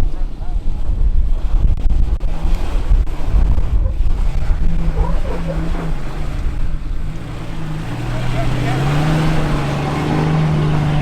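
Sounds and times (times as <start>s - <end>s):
off-road vehicle engine low revs: 0.0s - 11.0s
wind buffeting microphone: 0.0s - 11.0s.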